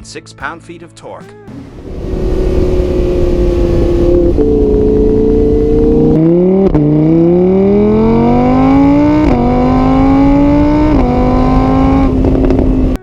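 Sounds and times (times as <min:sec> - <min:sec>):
sports car accelerating through gears: 0:01.6 - 0:13.0.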